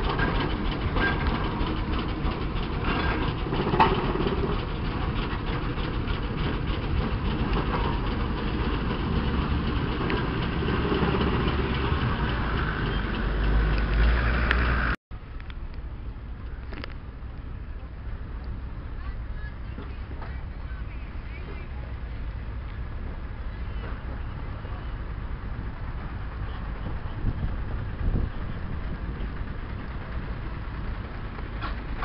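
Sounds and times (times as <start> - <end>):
distant traction engine: 0.0 - 32.0
steam roller rumbling: 0.0 - 32.0.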